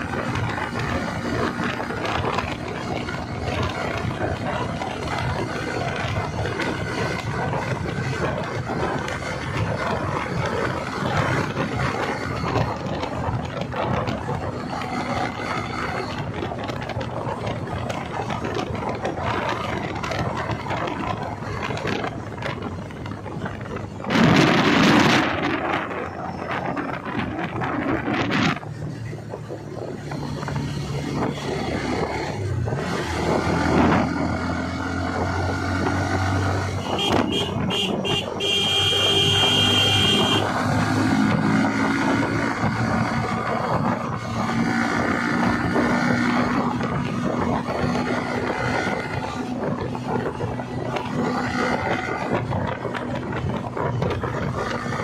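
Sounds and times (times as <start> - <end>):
motorcycle engine: 0.0 - 55.0
road noise: 0.0 - 55.0.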